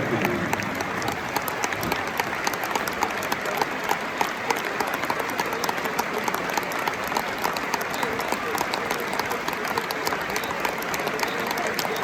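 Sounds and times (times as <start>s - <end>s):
stadium crowd applauding: 0.0s - 12.0s.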